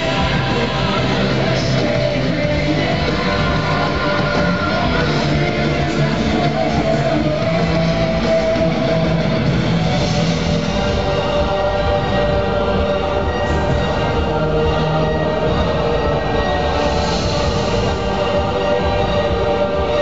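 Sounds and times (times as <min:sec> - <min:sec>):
loud rock music with guitar: 0:00.0 - 0:20.0.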